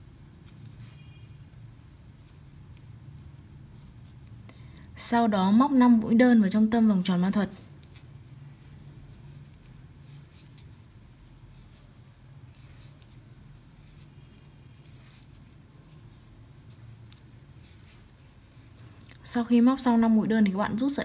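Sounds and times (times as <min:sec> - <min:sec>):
low steady hum: 0:00.0 - 0:21.0
yarn rustling on crochet hook: 0:00.0 - 0:21.0.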